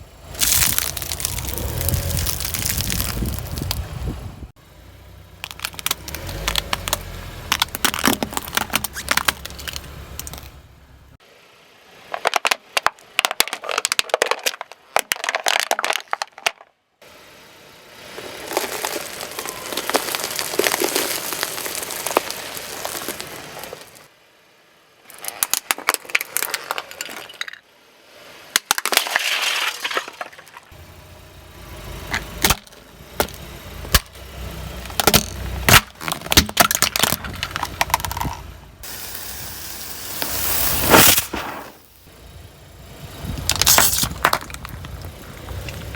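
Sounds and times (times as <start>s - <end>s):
car rumble: 0.0s - 13.8s, 15.2s - 45.9s
objects crunching under car tyres: 0.2s - 4.5s, 5.4s - 11.2s, 12.0s - 16.7s, 18.0s - 24.1s, 25.0s - 30.9s, 31.7s - 42.1s, 42.8s - 45.9s.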